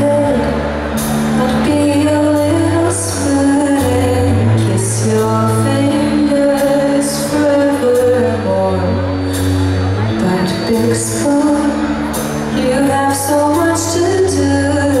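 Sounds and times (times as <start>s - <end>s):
band playing low chords: 0.0s - 15.0s
woman singing: 0.0s - 15.0s.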